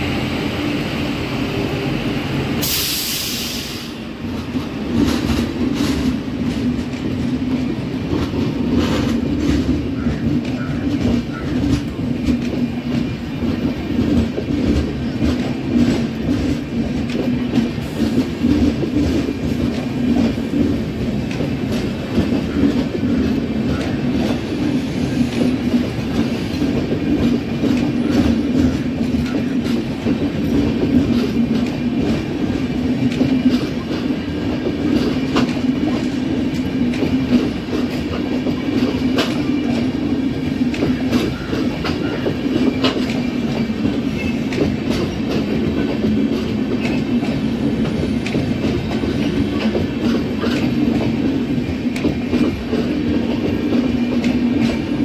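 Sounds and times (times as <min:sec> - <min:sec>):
train wheels rumbling on rail: 0:00.0 - 0:55.0
wheels clicking over rail joints: 0:04.3 - 0:55.0.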